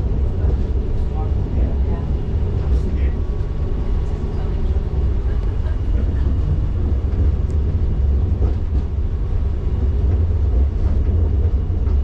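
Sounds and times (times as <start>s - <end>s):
diesel train rumbling past: 0.0s - 12.0s.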